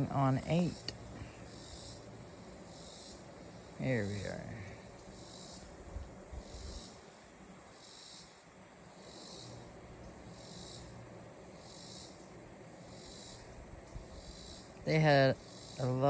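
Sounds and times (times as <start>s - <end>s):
bees humming: 0.0s - 16.0s
pulsing insect chorus: 0.0s - 16.0s.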